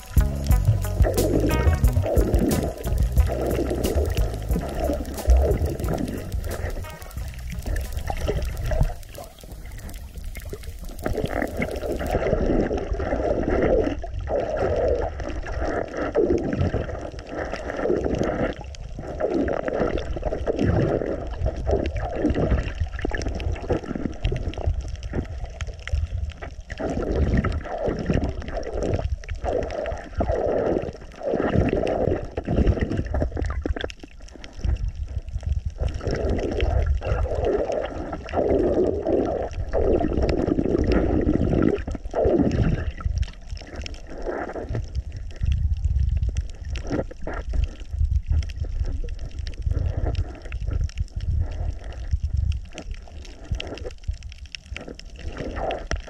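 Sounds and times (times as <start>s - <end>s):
underwater gurgling and sloshing: 0.0s - 56.0s.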